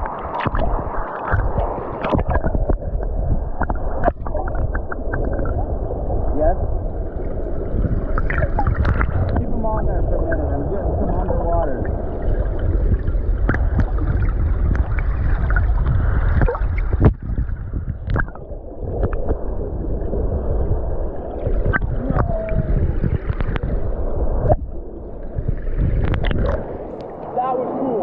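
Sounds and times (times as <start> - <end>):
underwater rushing and gurgling: 0.0 - 28.0.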